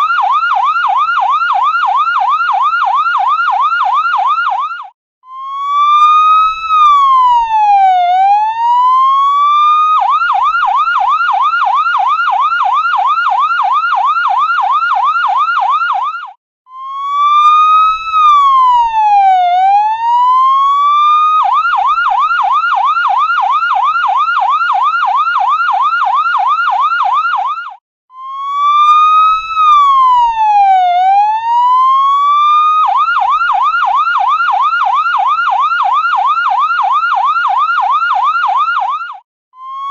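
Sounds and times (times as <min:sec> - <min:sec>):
ambulance siren wailing and yelping: 0:00.0 - 0:39.9.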